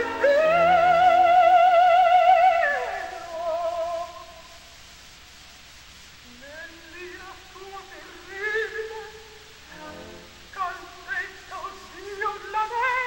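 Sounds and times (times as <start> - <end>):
operatic soprano singing: 0.0 - 4.6, 6.3 - 13.0.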